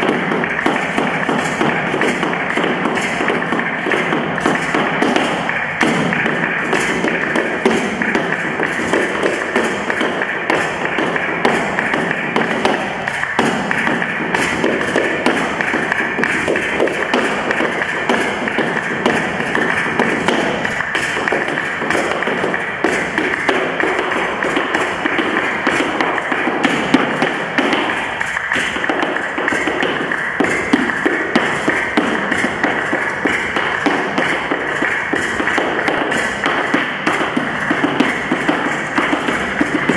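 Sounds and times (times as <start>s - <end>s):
heeled shoes tapping on floor: 0.0s - 39.9s.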